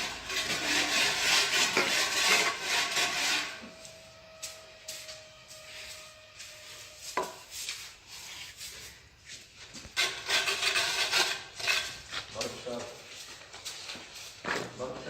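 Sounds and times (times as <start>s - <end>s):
hand tools scraping on tile: 0.0s - 12.6s.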